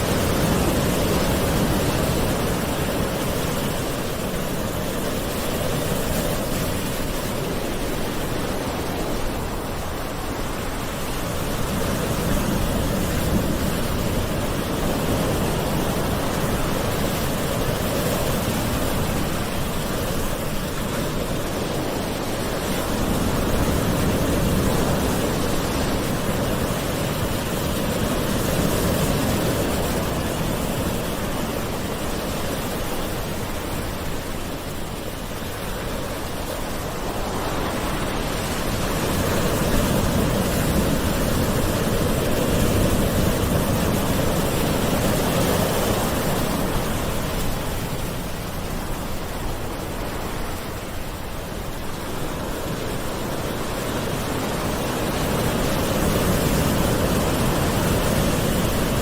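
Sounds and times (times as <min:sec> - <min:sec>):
sea waves washing onto shore: 0:00.0 - 0:59.0.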